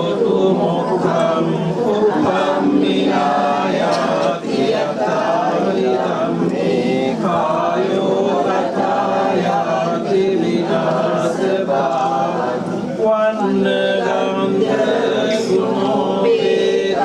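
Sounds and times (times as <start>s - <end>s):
group chanting: 0.0s - 17.0s.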